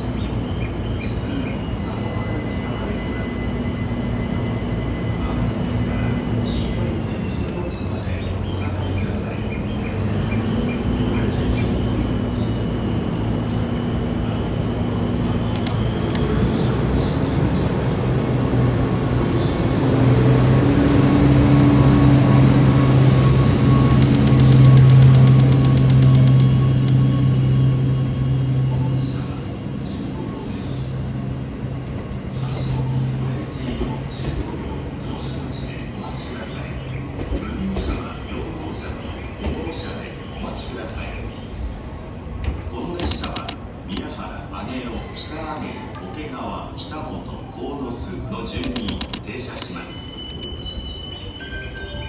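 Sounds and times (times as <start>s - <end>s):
locomotive engine humming: 0.0s - 52.0s
train rumbling on rails: 0.0s - 52.0s.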